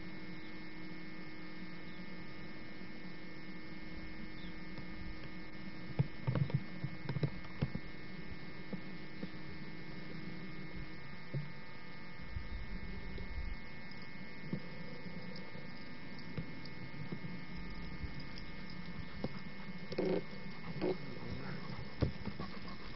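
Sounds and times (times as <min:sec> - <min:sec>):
steady electrical hum: 0:00.0 - 0:22.9.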